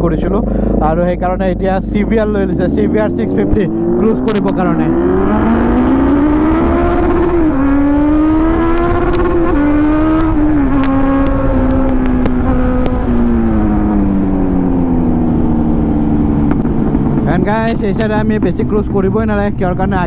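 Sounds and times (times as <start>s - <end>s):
motorcycle engine shifting gears: 0.0s - 20.0s
wind rush: 2.5s - 20.0s.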